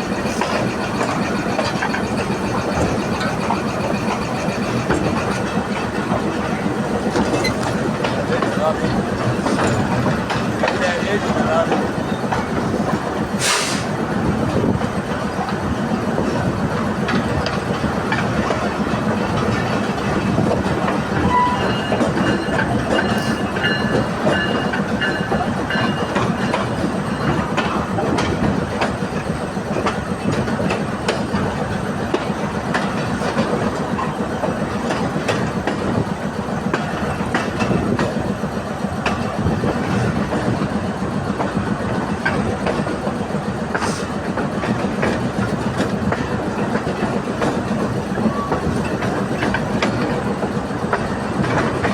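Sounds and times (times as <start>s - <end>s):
wheels clicking over rail joints: 0.0s - 13.4s, 14.4s - 51.9s
train coaches rumbling: 0.0s - 51.9s.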